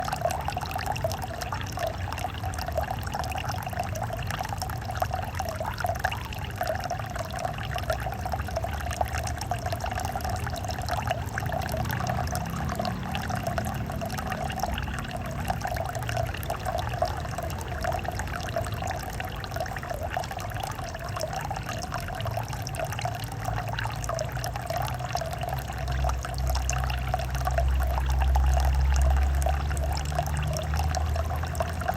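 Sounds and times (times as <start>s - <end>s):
waterfall splashing into pond: 0.0s - 31.9s.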